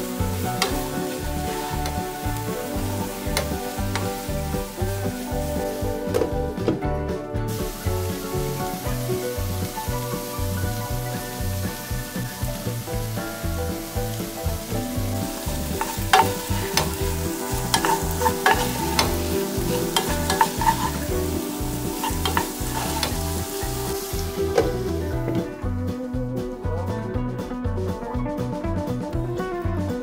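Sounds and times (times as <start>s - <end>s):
vegetables sizzling in frying pan: 0.0s - 6.7s, 7.4s - 25.5s
spatula knocking and scraping pan: 0.0s - 6.9s, 7.5s - 25.5s.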